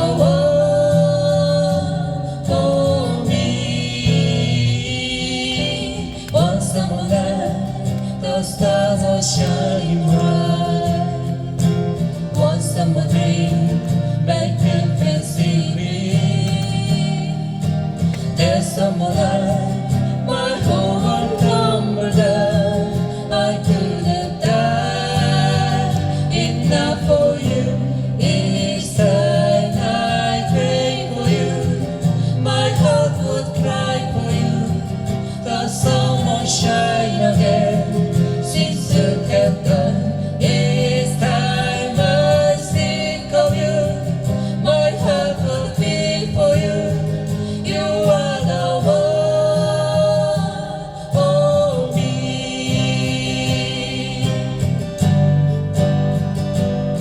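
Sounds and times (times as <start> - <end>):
person singing a ballad: 0.0 - 56.2
acoustic guitar: 0.0 - 57.0.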